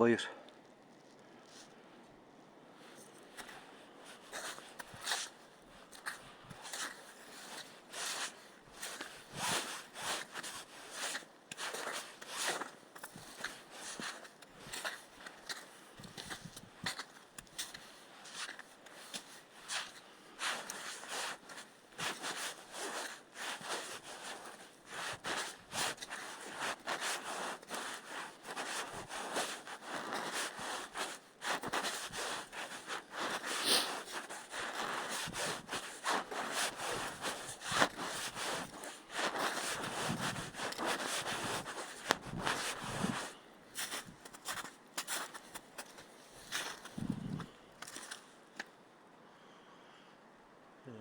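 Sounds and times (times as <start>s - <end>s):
footsteps on rough ground: 2.8s - 48.3s.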